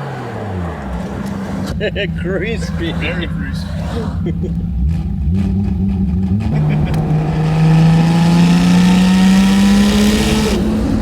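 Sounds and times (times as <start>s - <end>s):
turbo car engine under load: 0.0s - 11.0s.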